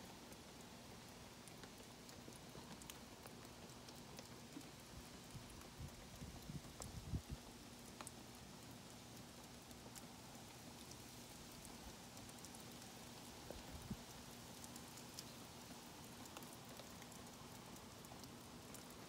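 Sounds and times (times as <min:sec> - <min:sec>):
faint outdoor hiss: 0:00.0 - 0:19.0
light ticks: 0:00.2 - 0:19.0.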